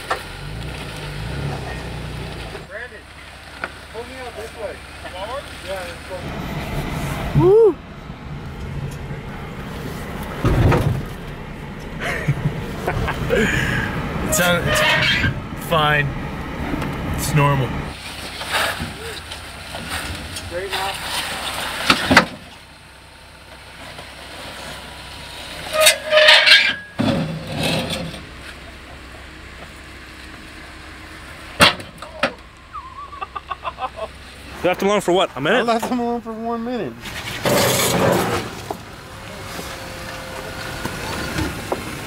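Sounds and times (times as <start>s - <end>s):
engine low rumble: 0.0s - 42.0s.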